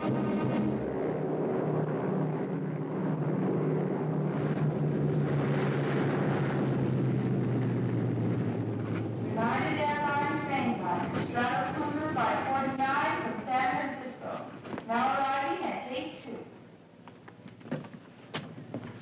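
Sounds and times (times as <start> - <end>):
propeller plane engines droning: 0.0 - 19.0.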